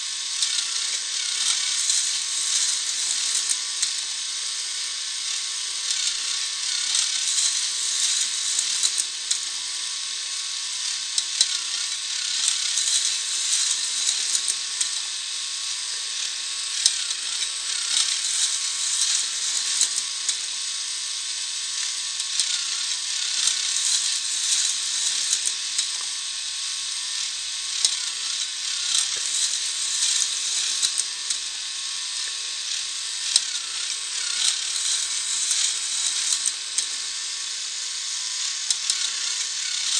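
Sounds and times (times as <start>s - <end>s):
plastic gears clicking and rattling: 0.1s - 39.9s.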